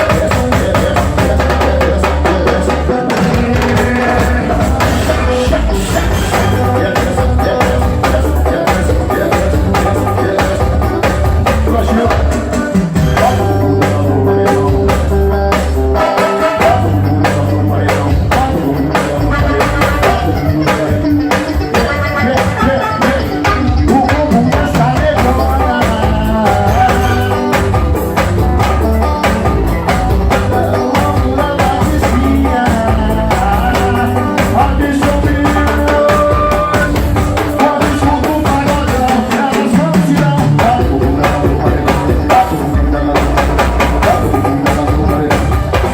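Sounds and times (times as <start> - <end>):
drum kit beat: 0.0 - 45.9
live band playing: 0.0 - 45.9.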